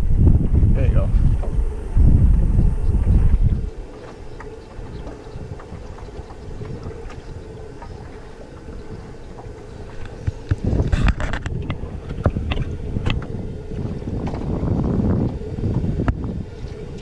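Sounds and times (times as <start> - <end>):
water lapping against boat: 0.0 - 17.0
wind buffeting microphone: 0.0 - 17.0.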